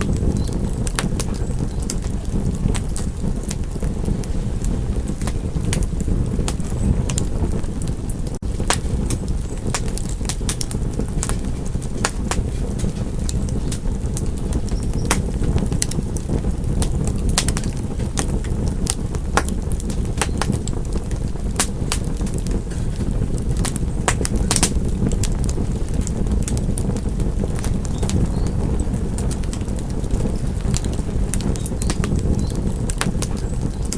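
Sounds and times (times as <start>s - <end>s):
fire crackling and popping: 0.0s - 33.9s
low fire rumble: 0.0s - 33.9s.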